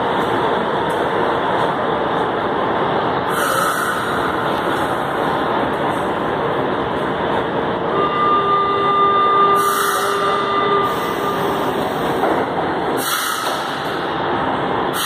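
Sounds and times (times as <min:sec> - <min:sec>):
steady whine: 0:00.0 - 0:15.0
train equipment running: 0:00.0 - 0:15.0.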